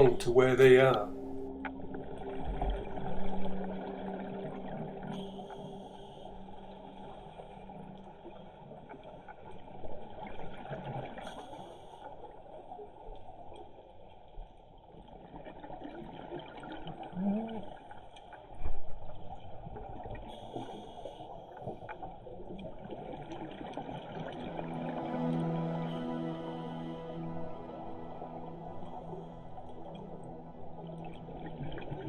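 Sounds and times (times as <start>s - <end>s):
underwater gurgling and bubbling: 0.0s - 32.0s.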